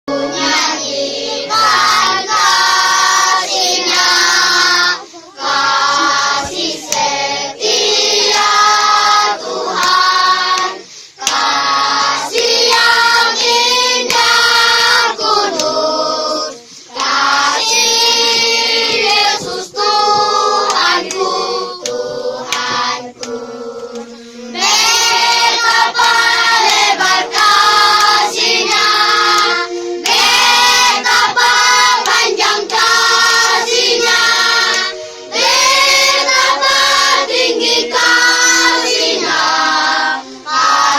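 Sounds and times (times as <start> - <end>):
choir singing a sacred song: 0.1 - 40.9.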